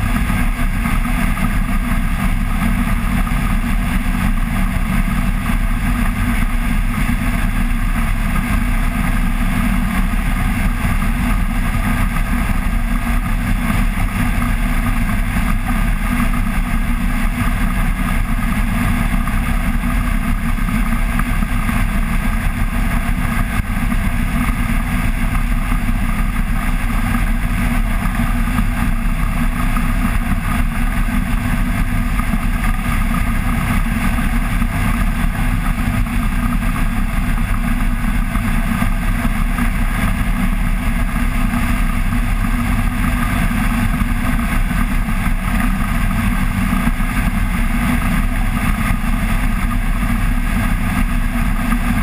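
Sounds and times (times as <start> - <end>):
microlight engine and propeller: 0.0 - 52.0.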